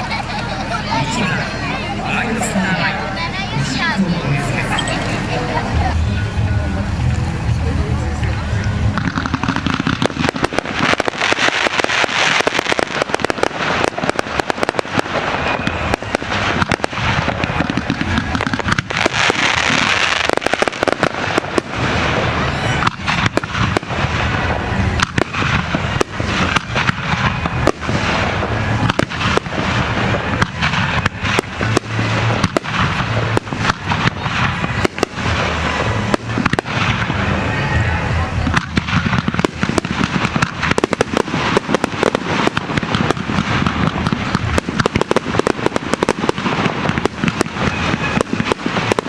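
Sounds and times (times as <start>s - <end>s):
fireworks bangs: 0.0s - 49.0s
fireworks crackle: 0.0s - 49.0s.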